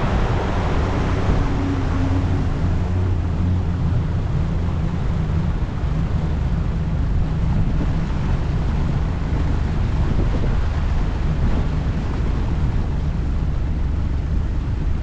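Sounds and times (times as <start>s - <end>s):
boat motor droning: 0.0s - 15.0s
wind and water rushing: 0.0s - 15.0s.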